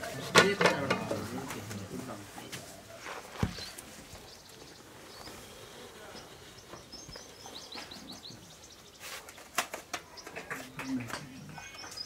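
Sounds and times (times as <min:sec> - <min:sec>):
small birds chirping: 0:01.3 - 0:12.0.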